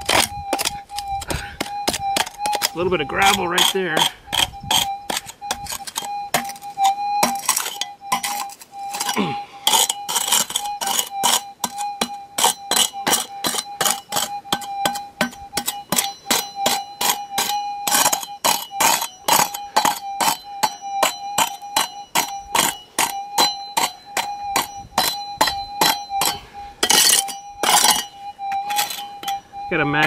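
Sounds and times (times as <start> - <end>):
pick striking rock: 0.0 - 6.6, 7.2 - 28.0
steady high tone: 0.0 - 30.0.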